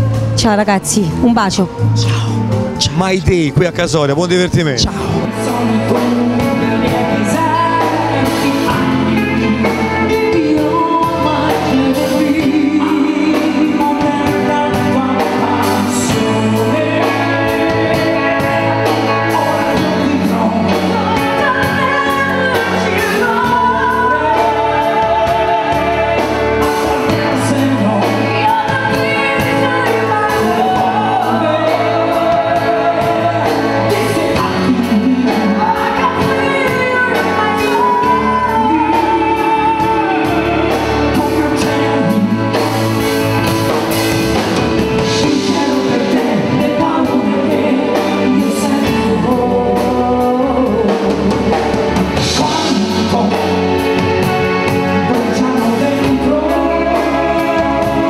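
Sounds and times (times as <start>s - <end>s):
band with drums and keyboards: 0.0s - 58.0s
woman and man singing: 4.6s - 43.5s, 44.8s - 58.0s.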